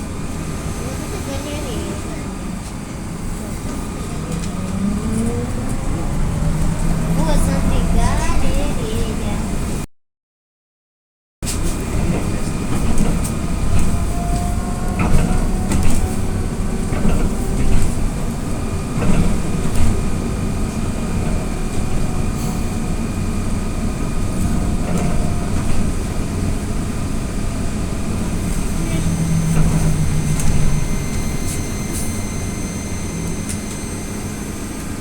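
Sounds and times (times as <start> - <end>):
trolleybus cabin rumble: 0.0 - 9.9, 11.4 - 35.0.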